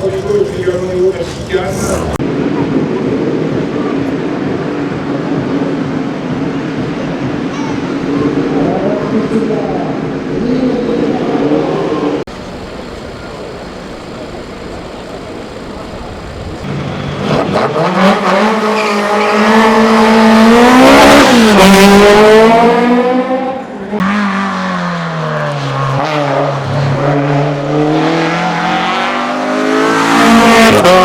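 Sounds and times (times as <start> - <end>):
race car engine at full throttle: 0.0 - 31.0.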